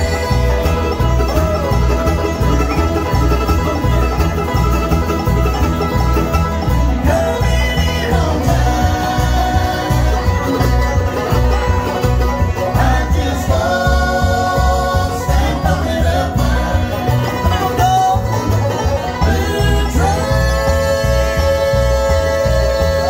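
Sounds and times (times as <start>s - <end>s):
bluegrass band playing: 0.0s - 23.0s.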